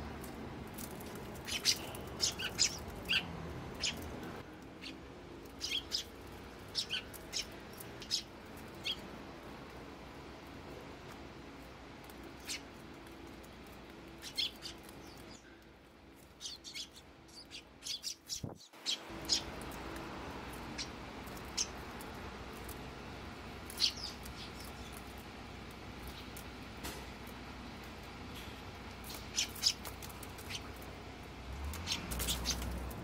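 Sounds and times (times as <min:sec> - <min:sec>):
sparrows chirping: 0:00.0 - 0:33.0.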